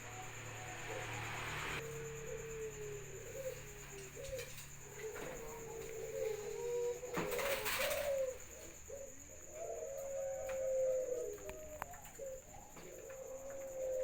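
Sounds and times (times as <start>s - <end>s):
doves cooing: 0.0s - 14.0s.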